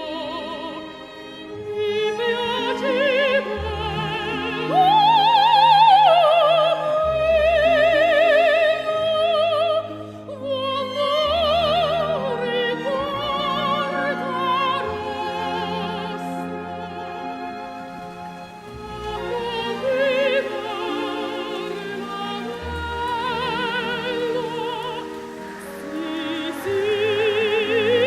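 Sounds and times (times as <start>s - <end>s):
operatic singing with vibrato: 0.0s - 28.0s
slow orchestral accompaniment: 0.0s - 28.0s.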